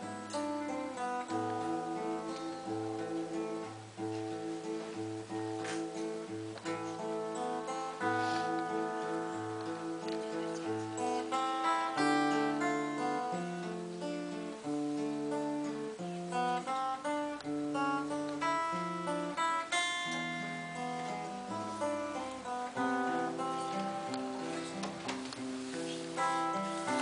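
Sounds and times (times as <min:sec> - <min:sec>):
classical guitar fingerstyle: 0:00.0 - 0:27.0.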